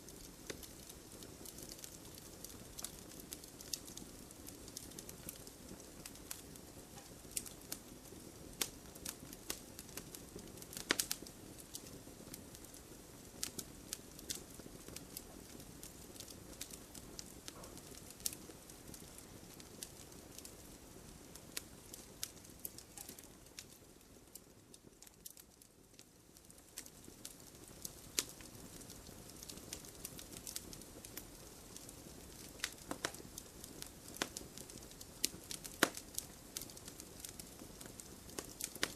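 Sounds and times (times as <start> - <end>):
low hiss of burning logs: 0.0 - 38.9
wood fire crackling and popping: 0.0 - 38.9.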